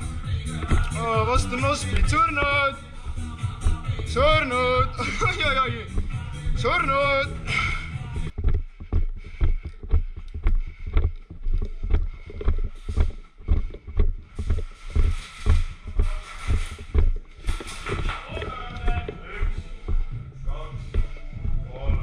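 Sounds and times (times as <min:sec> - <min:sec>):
footsteps walking: 0:00.0 - 0:07.4, 0:08.2 - 0:22.0.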